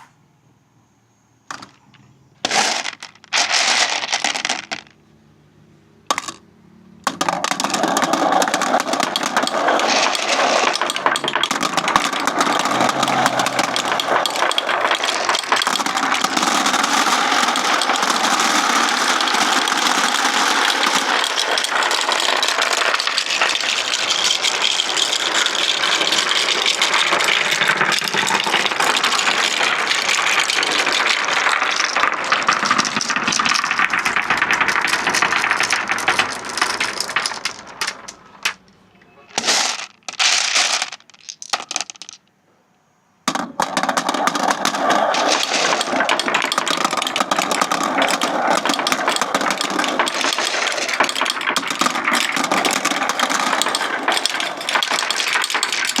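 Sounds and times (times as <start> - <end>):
marbles clattering down a track: 1.5 - 5.0, 6.1 - 6.4, 7.0 - 42.3, 43.3 - 56.0.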